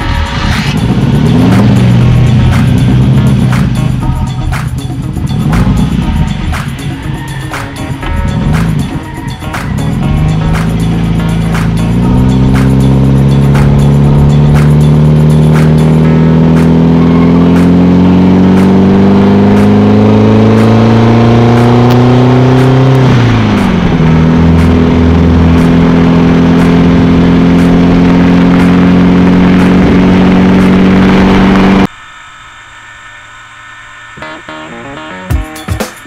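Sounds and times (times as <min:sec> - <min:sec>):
quiet music: 0:00.0 - 0:31.8
car engine accelerating: 0:00.0 - 0:32.0.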